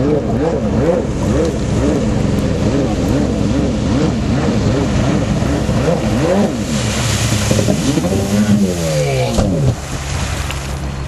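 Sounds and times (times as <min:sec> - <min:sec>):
jet ski engine revving: 0:00.0 - 0:11.0.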